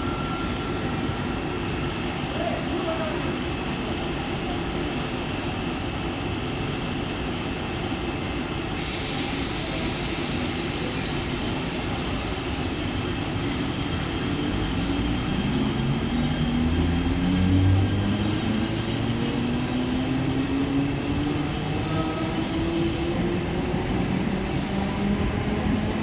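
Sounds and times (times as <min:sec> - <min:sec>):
electric train rumbling on rails: 0:00.0 - 0:26.0.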